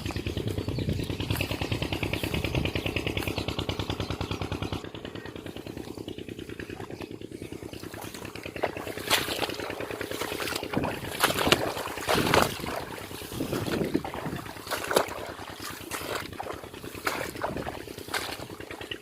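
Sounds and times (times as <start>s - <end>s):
engine chugging: 0.0s - 19.0s.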